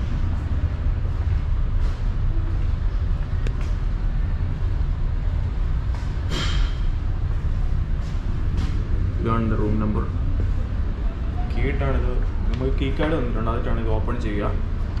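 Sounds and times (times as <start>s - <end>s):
ship machinery rumble: 0.0s - 15.0s.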